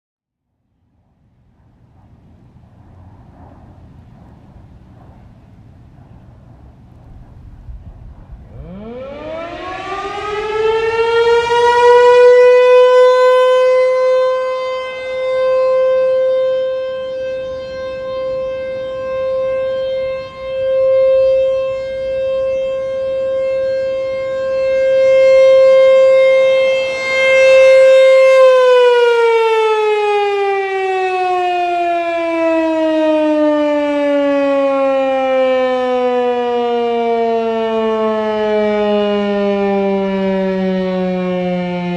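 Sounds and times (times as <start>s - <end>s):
tornado siren wailing: 1.6s - 41.9s.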